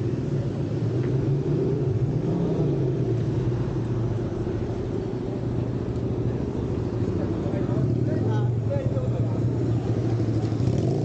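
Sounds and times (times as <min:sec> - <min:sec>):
city street noise rumble: 0:00.0 - 0:11.0.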